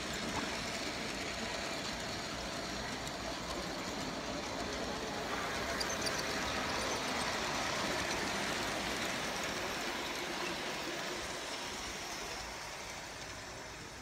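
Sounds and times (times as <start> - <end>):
model train wheels rattling: 0.0 - 14.0.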